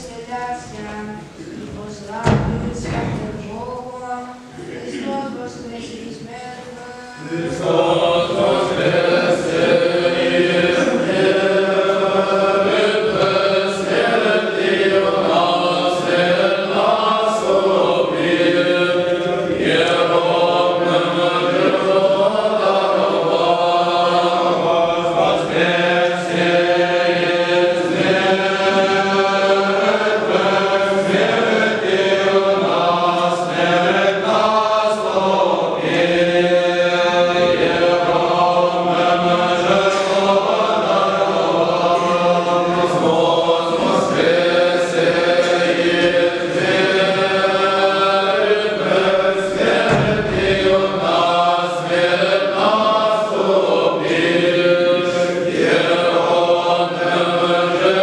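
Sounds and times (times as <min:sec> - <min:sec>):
voices chanting a hymn: 0:00.0 - 0:58.0.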